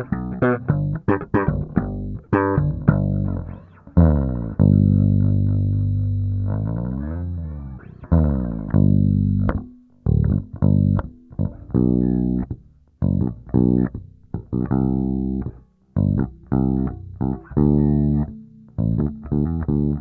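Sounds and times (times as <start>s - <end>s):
electric bass plucked notes: 0.0s - 20.0s.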